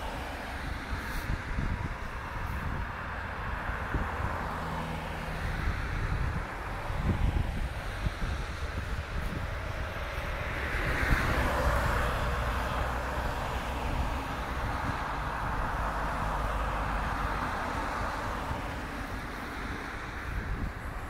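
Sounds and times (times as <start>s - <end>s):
cars driving past on wet road: 0.0s - 21.0s.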